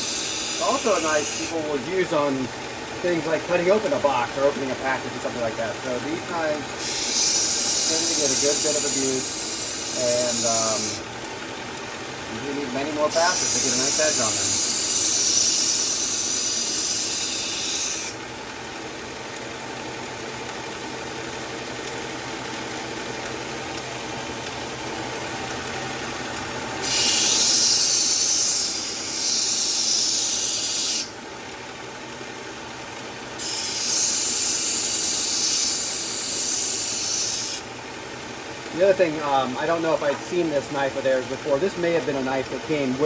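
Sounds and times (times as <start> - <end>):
belt sharpener motor hum: 0.0 - 19.4, 20.0 - 31.8, 33.2 - 37.8.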